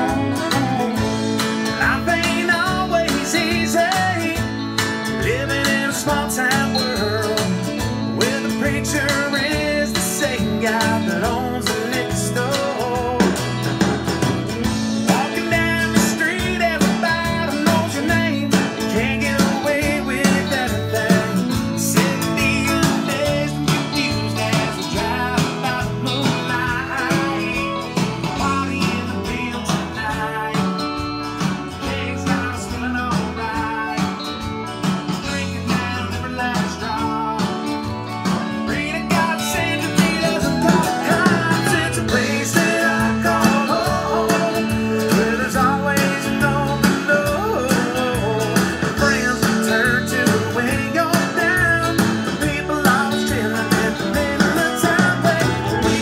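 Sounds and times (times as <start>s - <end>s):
man singing: 0.0s - 13.8s, 14.4s - 56.0s
country song with guitars: 0.0s - 56.0s.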